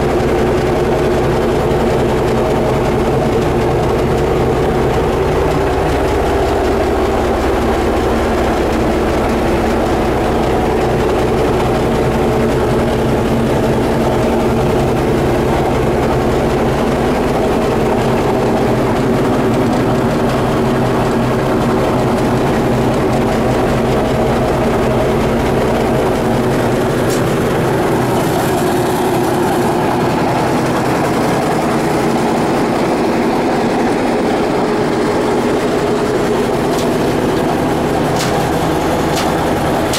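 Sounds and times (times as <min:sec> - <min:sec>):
diesel dozer engine droning: 0:00.0 - 0:39.9.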